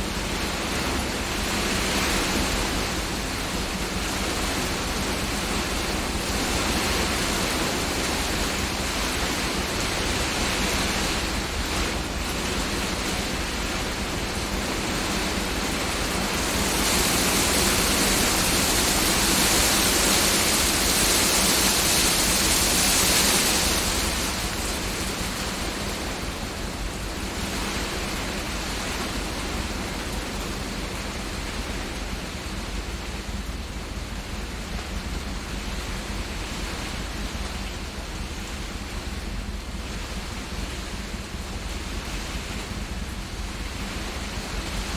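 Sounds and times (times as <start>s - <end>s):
rain and hail on greenhouse roof: 0.0s - 44.9s.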